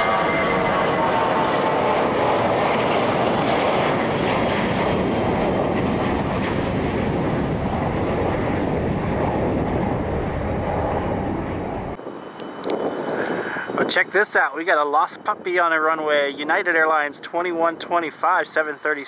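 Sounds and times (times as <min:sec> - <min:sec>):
jet engines at high power: 0:00.0 - 0:19.0.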